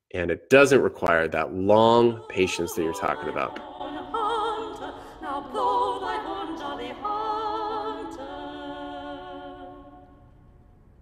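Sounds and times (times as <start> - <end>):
unaccompanied singing with vibrato: 1.6 - 10.6.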